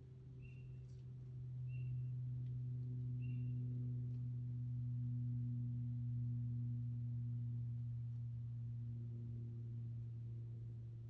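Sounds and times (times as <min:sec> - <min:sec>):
low hum with higher overtone: 0:00.0 - 0:11.0.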